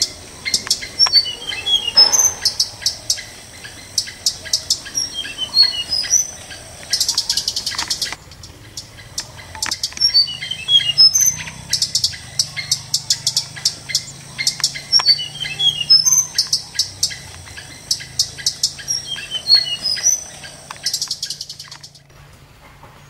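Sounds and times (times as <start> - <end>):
nestlings begging chirps: 0.0 - 22.1.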